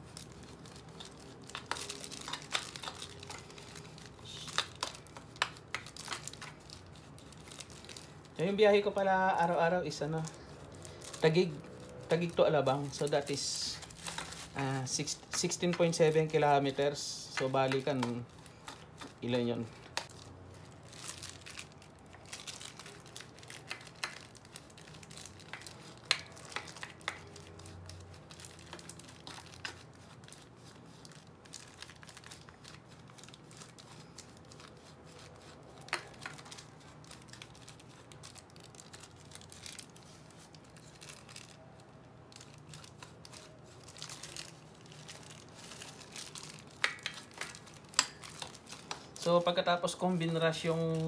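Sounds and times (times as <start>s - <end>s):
plastic bag crinkling: 0.0s - 51.0s.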